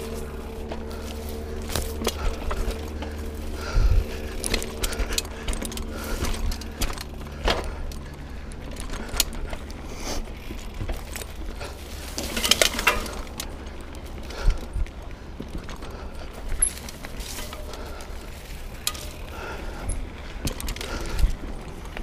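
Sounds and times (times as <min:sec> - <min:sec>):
bike chain rattling: 0:00.0 - 0:22.0
low rumble: 0:00.0 - 0:22.0
tyres clattering over rocks: 0:00.0 - 0:22.0.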